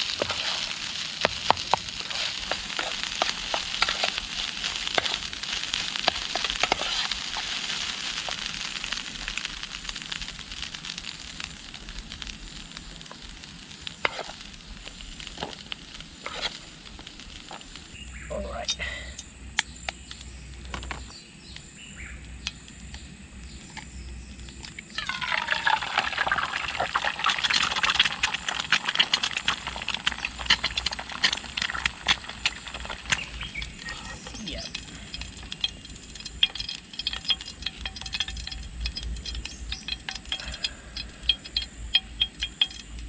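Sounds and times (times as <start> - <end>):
egg sizzling in hot oil: 0.0 - 18.6, 21.8 - 43.0
oil crackling and spitting: 0.0 - 20.9, 22.5 - 43.0.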